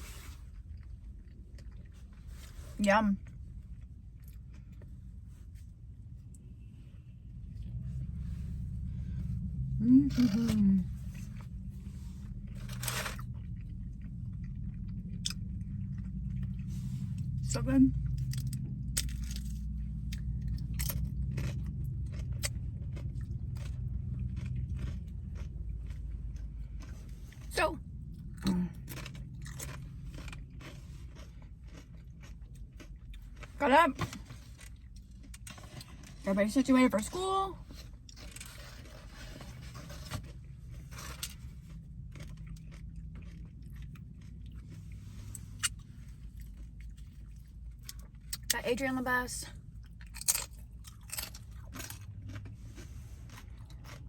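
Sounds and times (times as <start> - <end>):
chewing crunchy food: 0.0 - 6.5, 7.4 - 36.3, 37.1 - 48.6, 49.6 - 54.0
steady low hum: 0.0 - 54.0.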